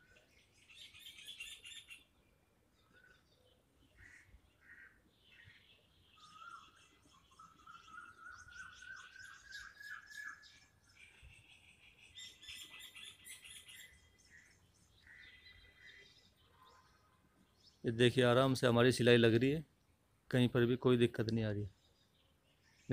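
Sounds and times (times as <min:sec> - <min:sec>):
faint bird chirping: 0:00.0 - 0:22.9.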